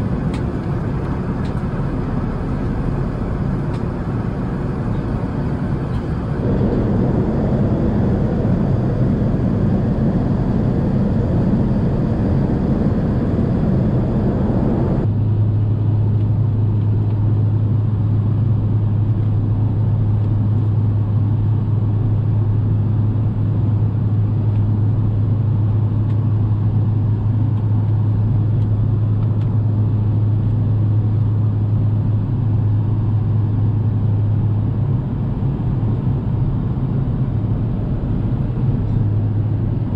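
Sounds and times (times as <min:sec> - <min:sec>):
aircraft cabin air and engine noise: 0:00.0 - 0:39.9
strong low hum: 0:00.0 - 0:39.9.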